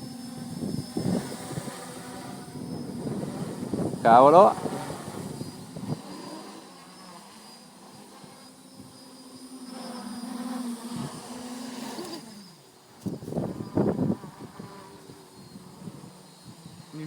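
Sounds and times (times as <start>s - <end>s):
quadcopter propellers buzzing: 0.0s - 17.0s.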